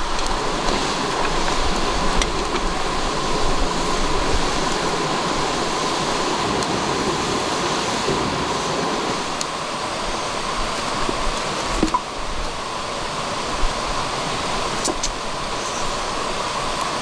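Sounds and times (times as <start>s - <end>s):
campfire crackling: 0.0s - 17.0s
stream running over rocks: 0.0s - 17.0s.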